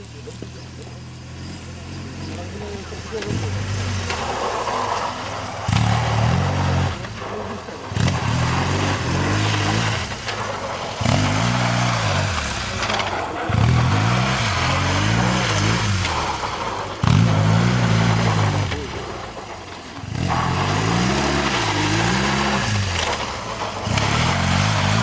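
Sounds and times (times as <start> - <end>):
motorcycle engine revving: 0.0 - 25.0
rear wheel spinning in dirt: 0.0 - 25.0.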